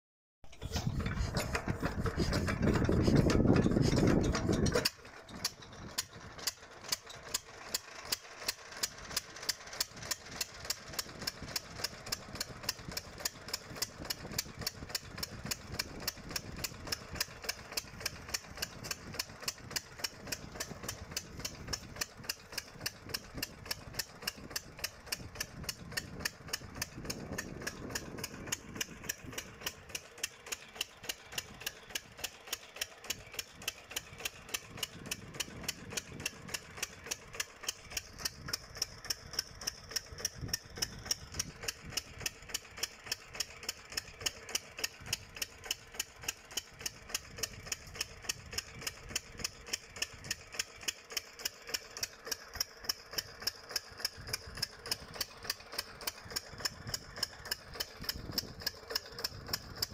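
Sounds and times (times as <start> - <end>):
diesel engine chugging: 0.5 - 59.9.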